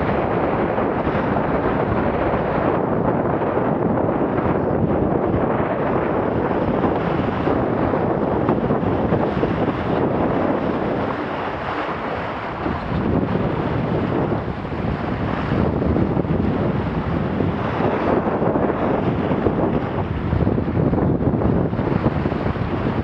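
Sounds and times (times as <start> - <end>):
water splashing along hull: 0.0 - 23.0
wind buffeting microphone: 0.0 - 23.0.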